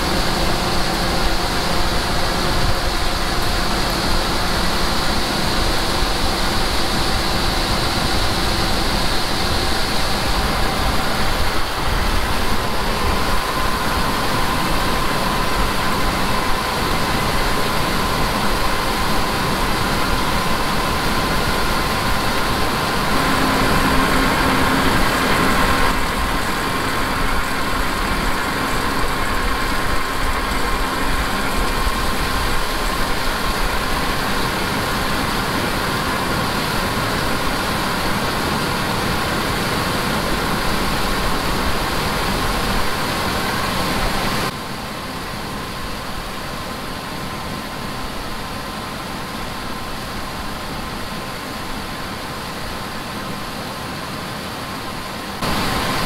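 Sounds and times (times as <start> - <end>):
faint steady whine: 0.0 - 56.0
farm machinery engine hum: 0.0 - 56.0.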